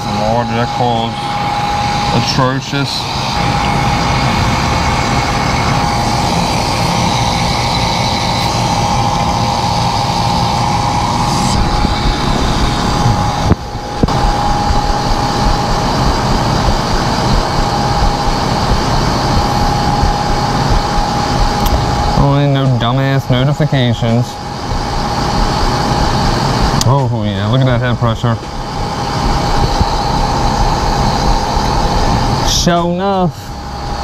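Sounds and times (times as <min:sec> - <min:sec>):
air conditioner unit droning: 0:00.0 - 0:34.0.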